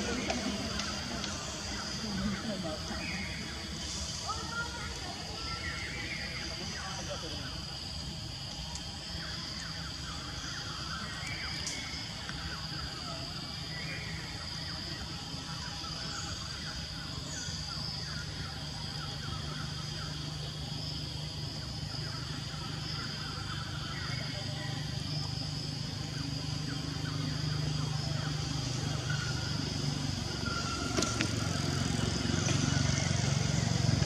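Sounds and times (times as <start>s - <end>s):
faint chirps: 0.0s - 34.0s.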